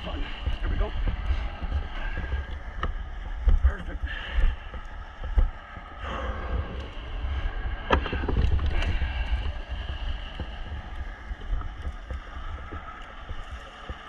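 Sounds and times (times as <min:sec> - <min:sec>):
steady machine hum: 0:00.0 - 0:14.0
wind rumble on microphone: 0:00.0 - 0:14.0.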